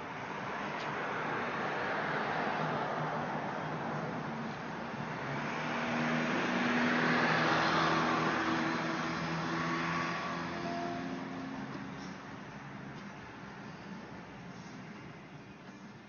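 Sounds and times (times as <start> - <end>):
road vehicle passing: 0.1 - 16.0.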